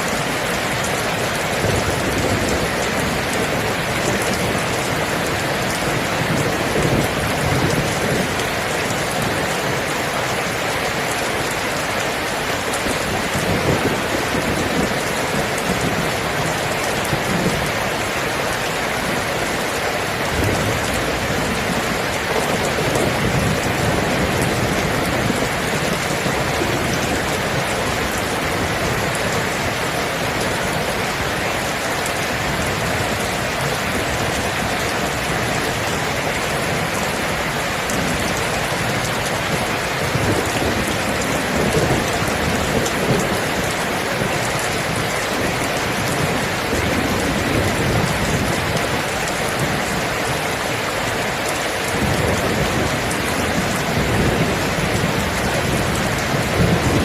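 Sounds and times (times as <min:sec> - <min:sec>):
heavy rain falling: 0:00.0 - 0:57.0
thunder rumbling: 0:00.1 - 0:11.2, 0:12.4 - 0:50.2, 0:50.8 - 0:57.0.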